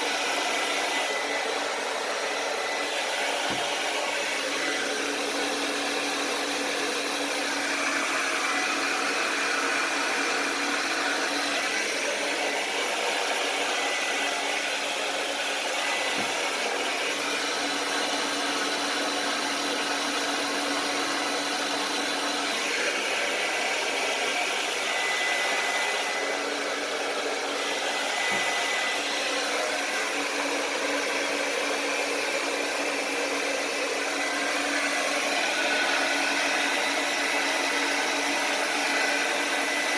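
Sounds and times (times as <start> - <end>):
hair dryer blowing air: 0.0 - 39.9.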